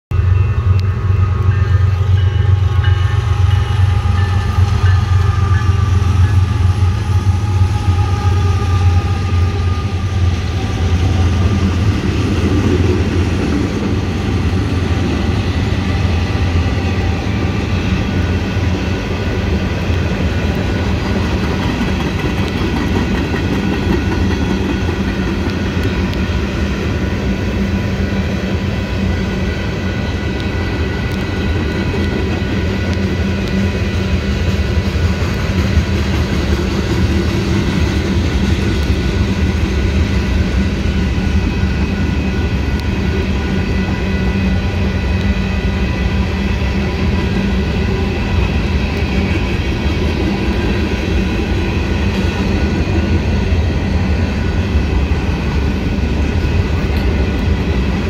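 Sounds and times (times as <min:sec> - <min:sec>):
locomotive engine hum: 0:00.1 - 0:58.0
train wheels rumbling on rails: 0:00.1 - 0:58.0.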